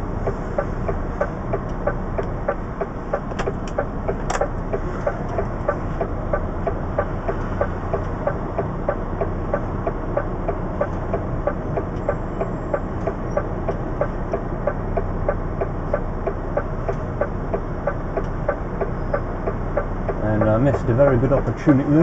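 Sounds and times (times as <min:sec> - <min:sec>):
diesel engine idling: 0:00.0 - 0:22.0
steady ticking: 0:00.1 - 0:22.0.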